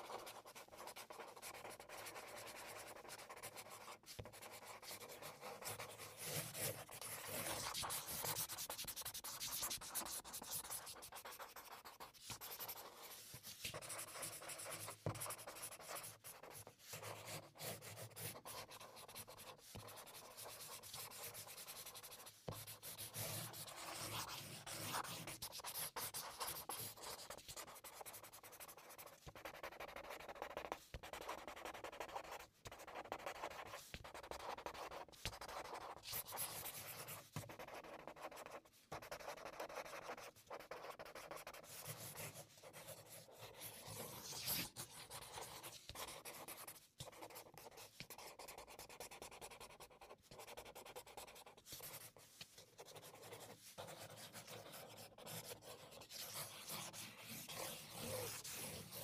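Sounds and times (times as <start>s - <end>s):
marker scratching on paper: 0.0s - 59.0s.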